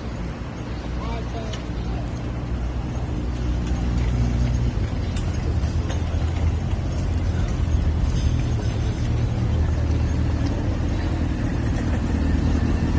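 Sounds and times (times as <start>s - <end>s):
vehicle engine droning: 0.0s - 12.9s.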